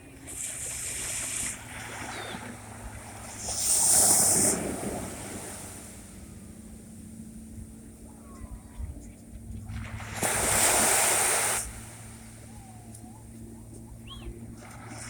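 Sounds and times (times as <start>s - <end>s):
sea waves washing on shore: 0.0s - 7.8s, 9.4s - 15.0s.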